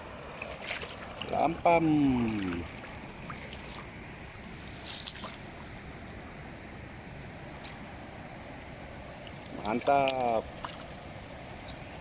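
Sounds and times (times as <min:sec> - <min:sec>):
faint water splashes: 0:00.0 - 0:06.3, 0:07.1 - 0:12.0
stream water running: 0:00.0 - 0:12.0.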